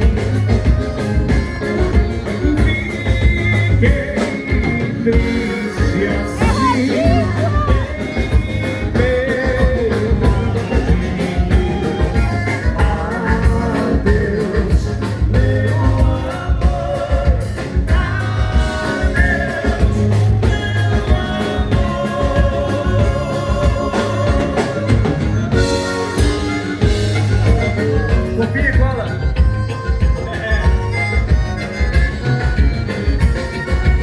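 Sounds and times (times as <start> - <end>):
live band playing dance music: 0.0 - 34.0.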